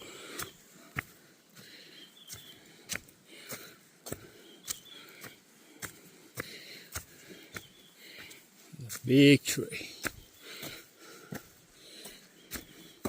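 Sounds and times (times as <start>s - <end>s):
heavy breathing: 0.0s - 8.8s, 9.7s - 13.0s
footsteps on mountain trail: 0.0s - 13.0s.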